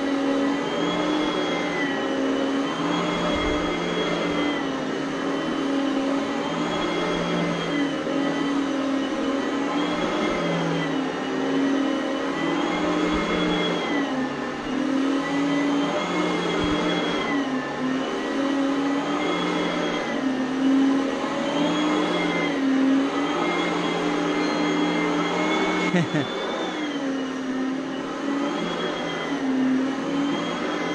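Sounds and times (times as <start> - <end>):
upright vacuum cleaner running: 0.0 - 30.9.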